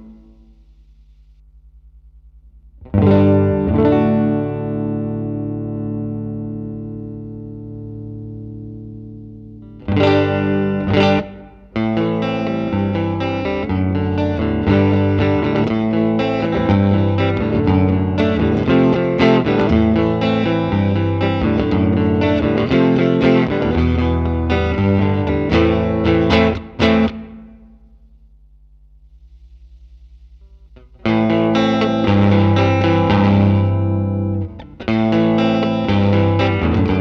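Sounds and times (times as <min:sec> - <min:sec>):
distorted electric guitar: 0:00.0 - 0:01.1, 0:02.8 - 0:37.0.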